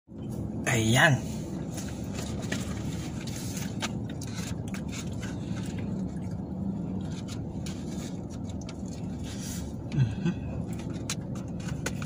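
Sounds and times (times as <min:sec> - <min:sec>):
car engine idling: 0:00.1 - 0:12.0.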